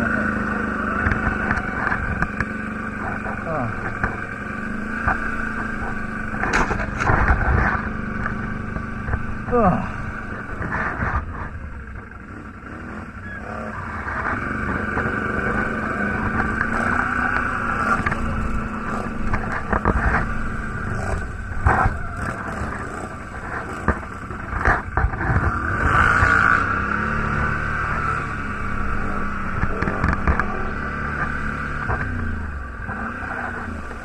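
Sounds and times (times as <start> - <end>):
knocks and rattles over bumps: 0.0 - 13.0, 13.9 - 34.0
quad bike engine running: 0.0 - 34.0.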